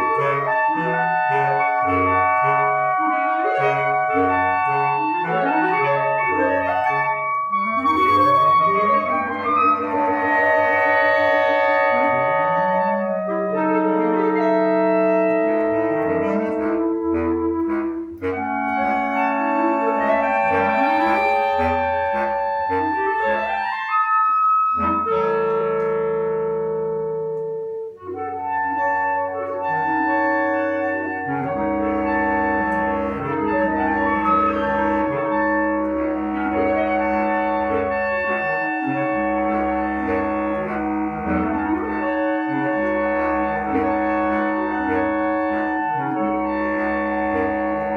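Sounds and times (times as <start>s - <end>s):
sustained orchestral chords: 0.0s - 47.9s
woodwind-like lead melody: 0.0s - 47.9s.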